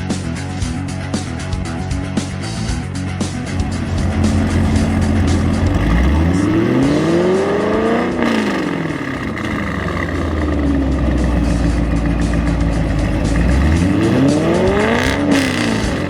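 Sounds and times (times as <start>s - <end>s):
car engine revving and idling: 2.1s - 16.0s.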